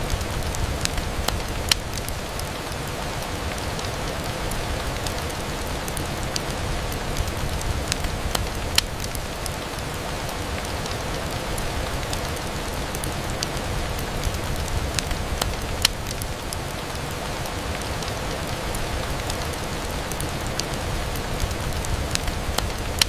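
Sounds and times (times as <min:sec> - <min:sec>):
rain on a window: 0:00.0 - 0:23.0.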